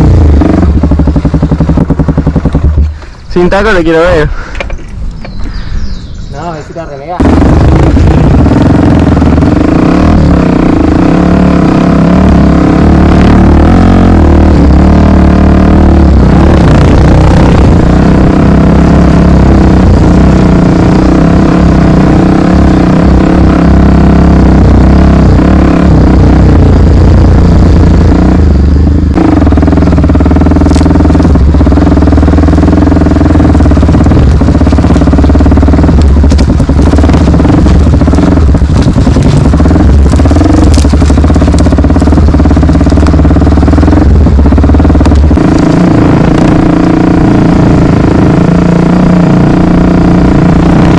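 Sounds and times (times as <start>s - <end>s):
motorcycle engine running: 0.0s - 5.8s, 6.4s - 50.9s.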